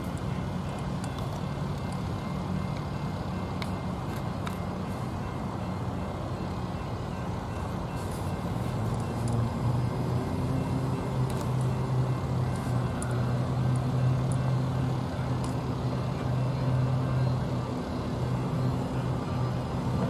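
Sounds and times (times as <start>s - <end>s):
locomotive diesel engine drone: 0.0s - 20.0s.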